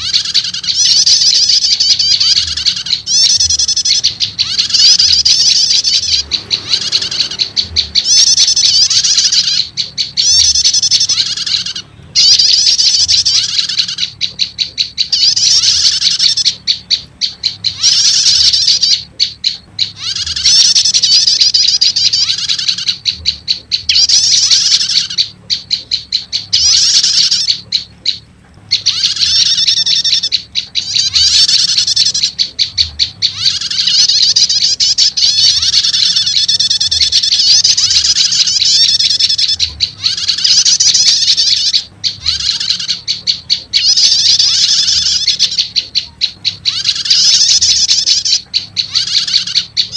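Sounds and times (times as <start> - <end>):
bird chattering trills: 0.0 - 49.9.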